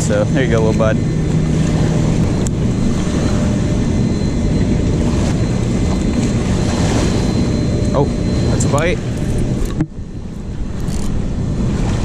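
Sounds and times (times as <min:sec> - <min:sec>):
river water washing against bank: 0:00.0 - 0:12.0
wind rumble on microphone: 0:00.0 - 0:12.0.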